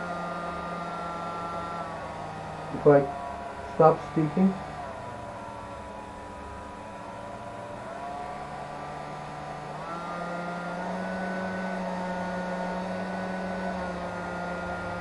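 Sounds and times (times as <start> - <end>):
hair dryer fan whirring: 0.0 - 15.0.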